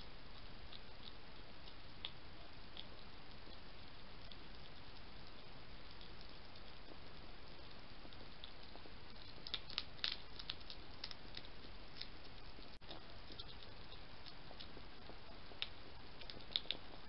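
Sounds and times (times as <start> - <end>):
steady hiss: 0.0 - 17.0
hedgehog crunching dry food: 0.2 - 17.0.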